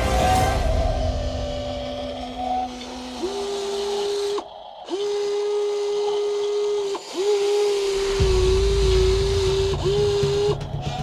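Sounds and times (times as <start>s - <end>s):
toy excavator motors whining: 0.2s - 11.0s.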